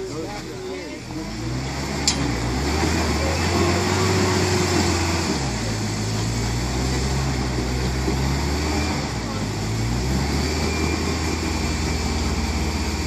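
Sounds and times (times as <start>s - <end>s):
truck engine running under load: 0.0s - 13.0s.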